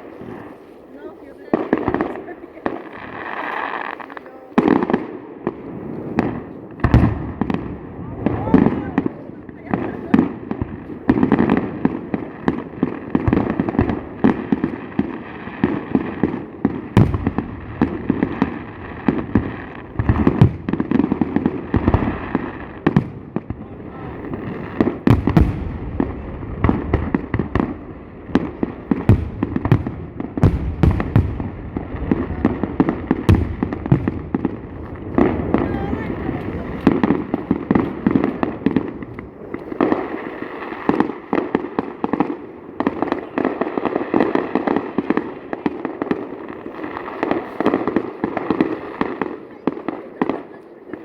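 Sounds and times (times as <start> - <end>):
fireworks bangs and pops: 0.0 - 51.0
low rumble of explosions: 0.0 - 51.0.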